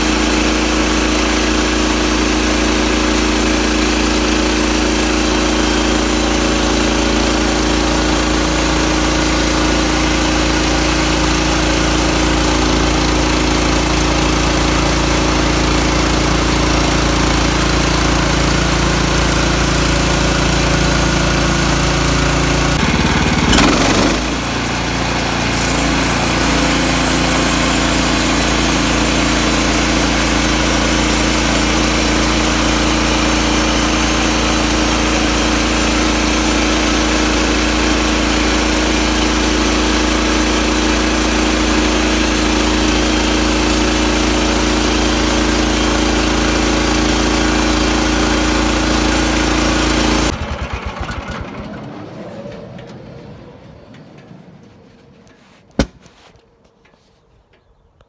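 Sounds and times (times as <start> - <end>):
sawmill engine running: 0.0 - 56.3.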